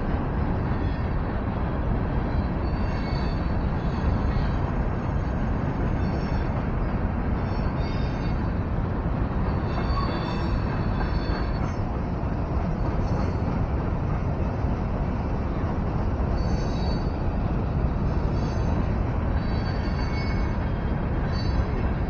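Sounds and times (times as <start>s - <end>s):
freight train rumble and clatter: 0.0s - 22.0s.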